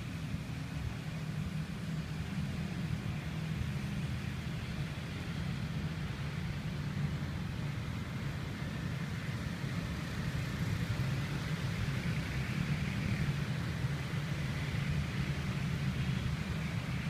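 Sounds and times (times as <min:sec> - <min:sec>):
city traffic rumble: 0:00.0 - 0:17.0
faint hiss: 0:00.0 - 0:17.0.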